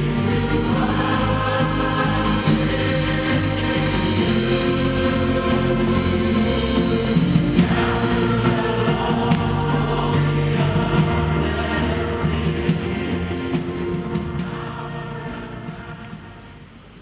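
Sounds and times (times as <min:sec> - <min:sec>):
church choir singing: 0:00.0 - 0:16.9.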